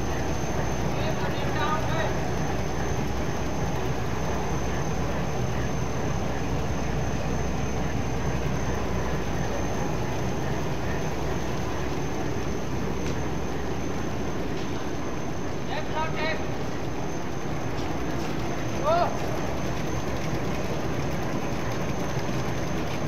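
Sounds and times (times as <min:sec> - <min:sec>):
printing machine running: 0:00.0 - 0:23.0.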